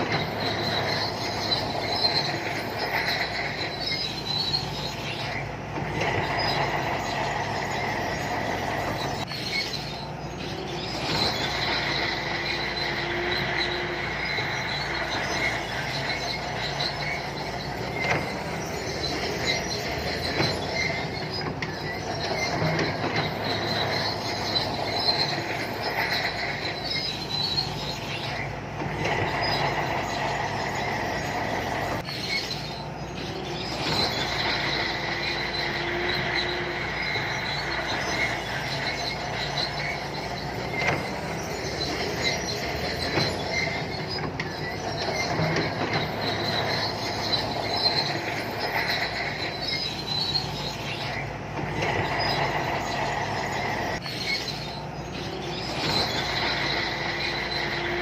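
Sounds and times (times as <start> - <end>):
diesel engine running: 0.0 - 58.0
steel tracks squealing: 0.0 - 58.0.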